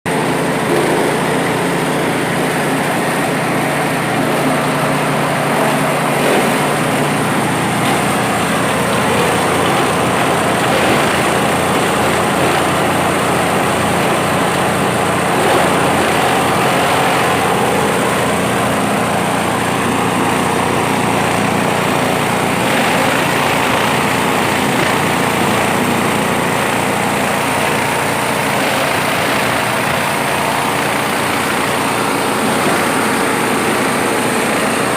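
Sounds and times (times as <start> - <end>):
grass chopper machine running: 0.1 - 34.9.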